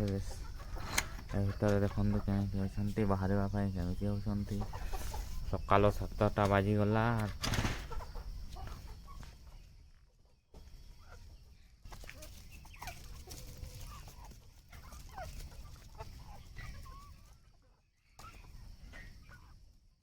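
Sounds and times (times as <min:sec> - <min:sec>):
chickens clucking and calling: 0:00.0 - 0:20.0.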